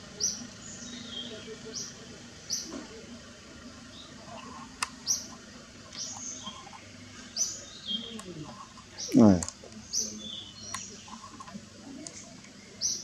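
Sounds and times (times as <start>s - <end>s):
bird chirping: 0.1s - 2.8s, 3.8s - 13.0s.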